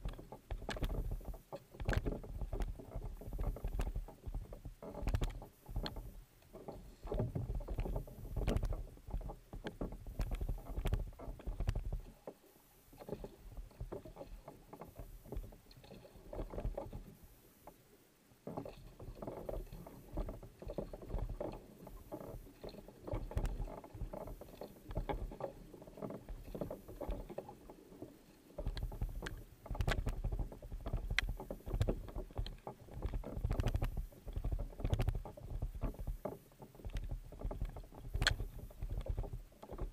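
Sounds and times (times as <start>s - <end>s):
paddle splashing in water: 0.0s - 17.8s, 18.4s - 39.9s
water washing along hull: 0.0s - 39.9s.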